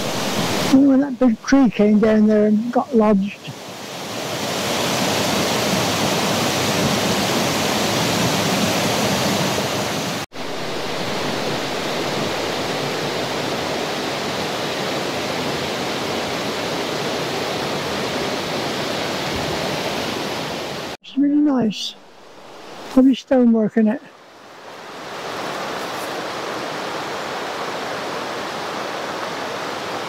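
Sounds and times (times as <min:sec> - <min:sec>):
river water rushing: 0:00.0 - 0:21.0, 0:21.7 - 0:23.0, 0:24.0 - 0:30.0.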